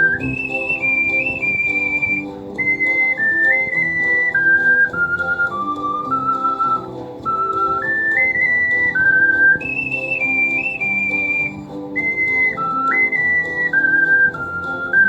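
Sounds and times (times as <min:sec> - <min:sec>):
ocarina playing slow melody: 0:00.0 - 0:15.0.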